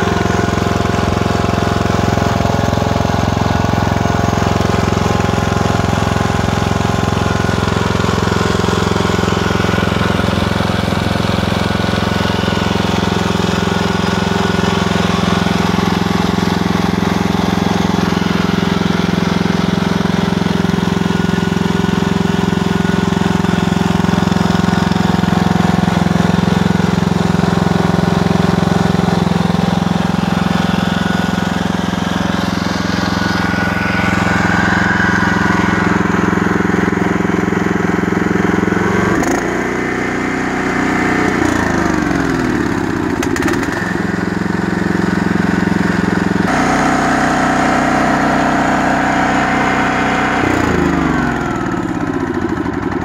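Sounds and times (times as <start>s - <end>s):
lawn mower engine running: 0.0s - 53.0s.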